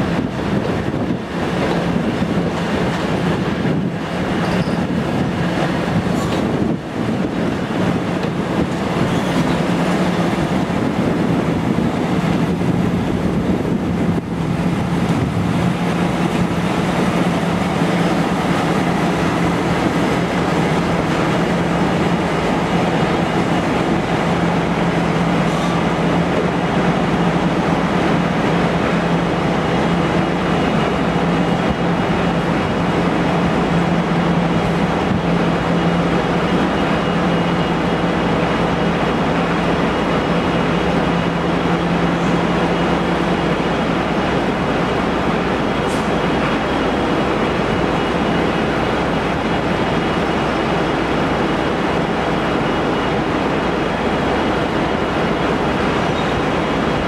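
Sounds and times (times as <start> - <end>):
train droning tone: 0.0 - 57.0
train running rumble: 0.0 - 57.0.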